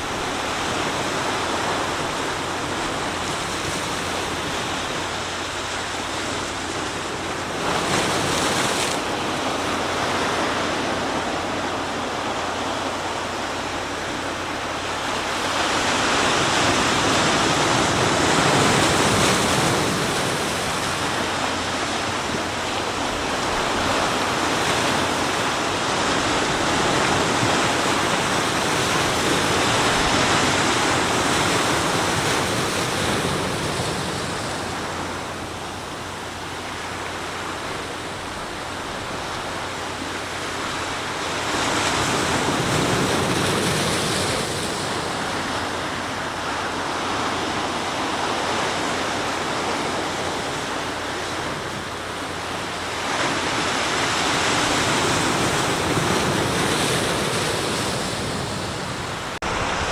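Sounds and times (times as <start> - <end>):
sea surf breaking on shore: 0.0 - 59.9.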